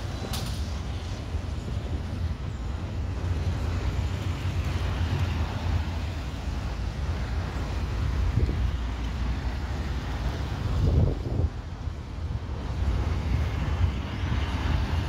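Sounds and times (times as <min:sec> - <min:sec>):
distant jet engines roaring: 0:00.0 - 0:15.0
wind rumbling on microphone: 0:00.0 - 0:15.0.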